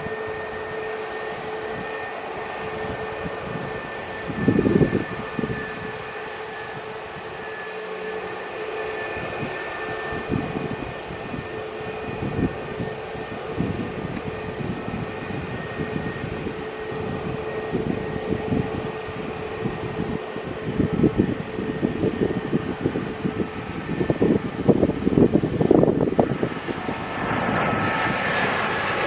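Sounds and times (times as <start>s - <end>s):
jet engines whining: 0.0s - 29.0s
wind buffeting microphone: 0.0s - 29.0s.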